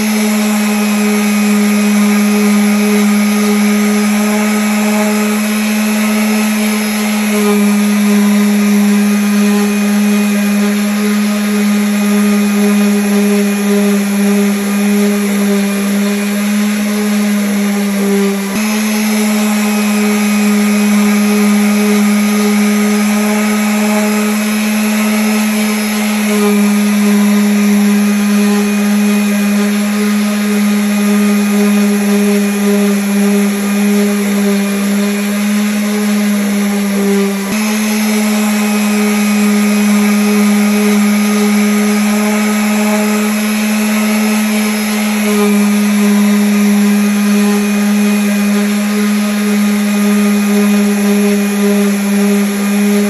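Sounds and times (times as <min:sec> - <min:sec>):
electric sander on wood: 0:00.0 - 0:53.0.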